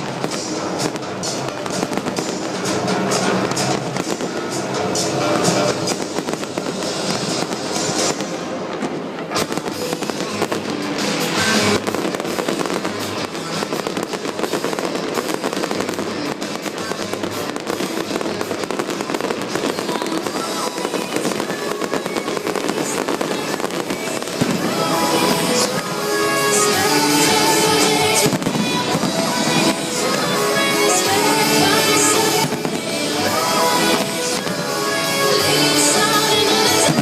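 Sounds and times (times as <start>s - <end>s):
firework bangs: 0.0s - 37.0s
fireworks crackling and popping: 0.0s - 37.0s
loud show music: 0.0s - 37.0s.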